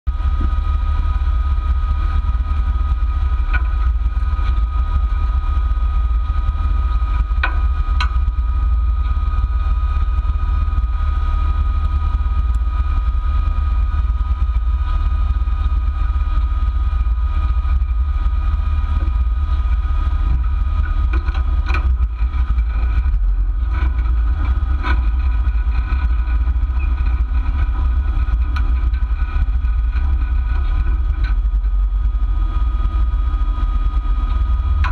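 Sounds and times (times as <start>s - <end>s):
car engine idling: 0.0s - 34.9s
engine knocks: 0.1s - 34.9s.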